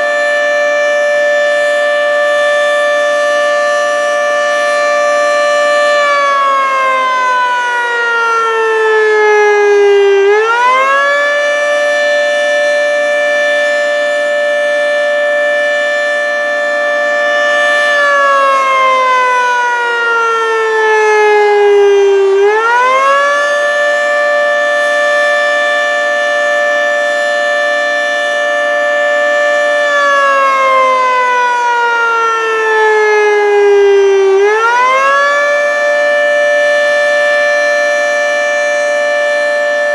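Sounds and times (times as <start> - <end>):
three-tone warning siren wailing: 0.0 - 39.9.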